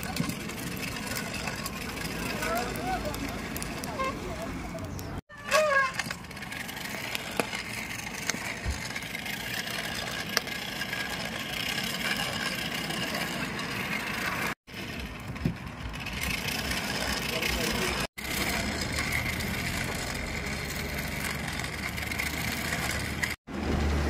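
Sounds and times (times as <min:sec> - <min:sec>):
hand-cranked blower whirring: 0:00.0 - 0:24.0.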